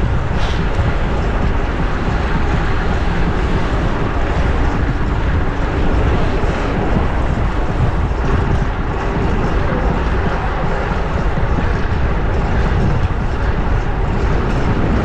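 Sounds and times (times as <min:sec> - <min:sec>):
street traffic: 0:00.0 - 0:15.0
wind rushing on microphone: 0:00.0 - 0:15.0.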